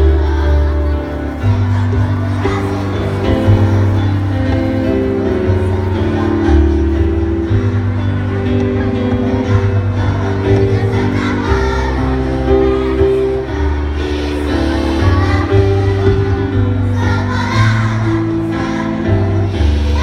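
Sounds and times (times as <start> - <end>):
choir singing: 0.0 - 20.0
music: 0.0 - 20.0.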